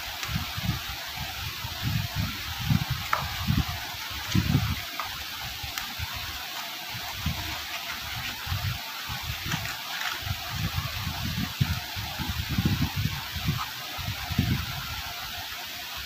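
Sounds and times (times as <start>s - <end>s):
cardboard packaging rustling: 0.0s - 14.4s
steady hiss: 0.0s - 16.0s.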